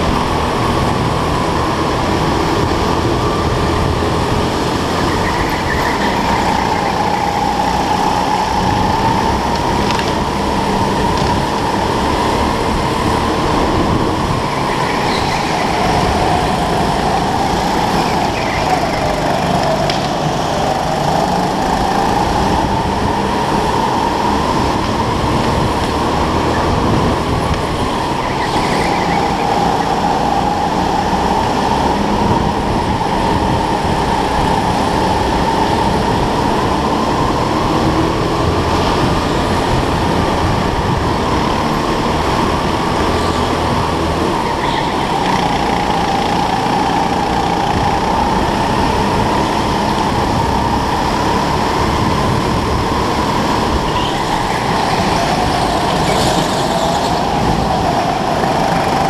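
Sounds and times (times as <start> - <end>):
go-kart motor running: 0.0 - 59.0.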